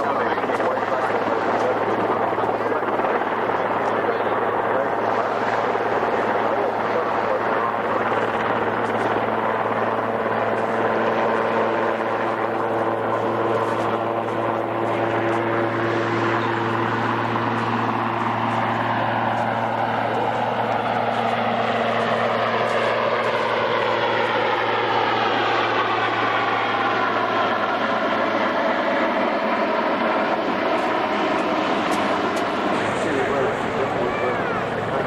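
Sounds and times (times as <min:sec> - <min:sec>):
aircraft passing: 0:00.0 - 0:35.0
helicopter engine and rotor hum: 0:00.0 - 0:35.0.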